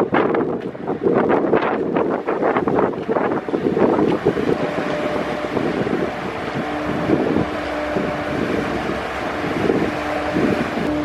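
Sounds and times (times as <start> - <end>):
boat engines humming: 0.0 - 11.0
water rushing: 0.0 - 11.0
wind buffeting microphone: 0.0 - 11.0.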